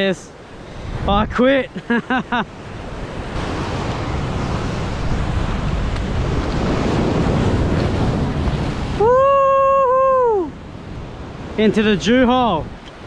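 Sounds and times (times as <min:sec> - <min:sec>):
wind buffeting microphone: 0:00.5 - 0:01.7, 0:02.5 - 0:13.0
surf breaking on rocky shore: 0:00.5 - 0:13.0.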